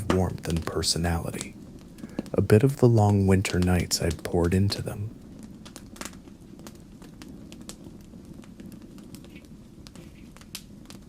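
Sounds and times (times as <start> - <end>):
low fire rumble: 0.0 - 11.0
wood fire crackling and popping: 0.0 - 11.0.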